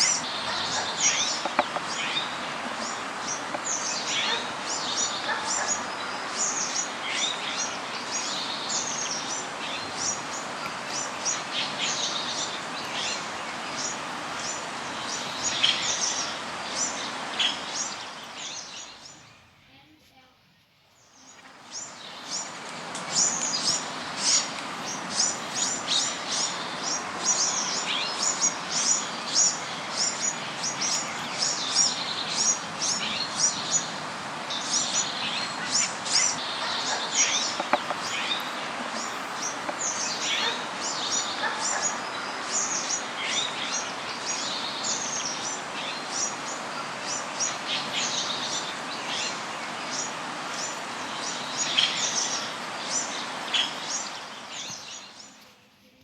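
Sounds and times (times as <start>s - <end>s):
birds chirping: 0.0s - 20.0s, 20.9s - 55.6s
steady background noise: 0.0s - 20.4s, 21.1s - 56.0s.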